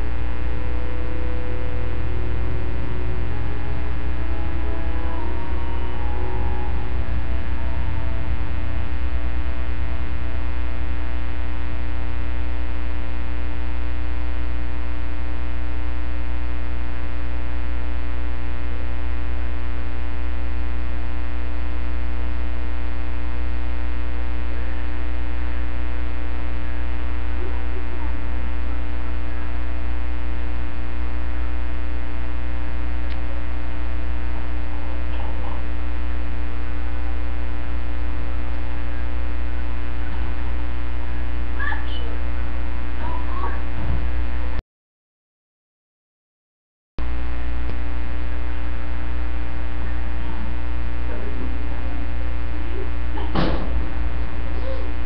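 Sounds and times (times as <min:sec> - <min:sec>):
electrical mains hum: 0:00.0 - 0:44.6, 0:47.0 - 0:55.0.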